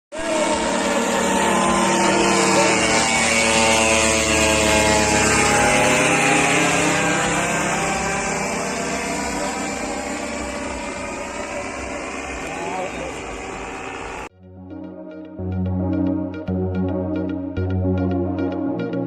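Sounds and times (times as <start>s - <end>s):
boat engine running: 0.1s - 18.7s.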